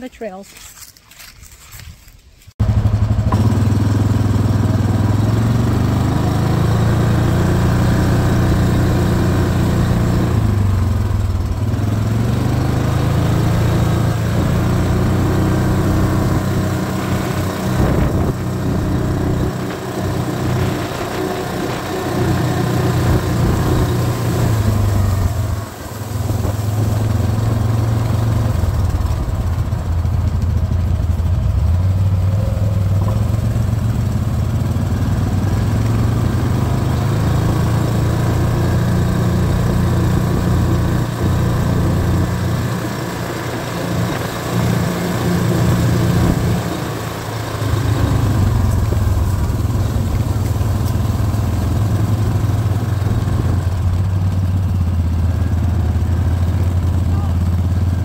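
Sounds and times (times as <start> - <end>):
quad bike engine running: 2.6 - 58.0.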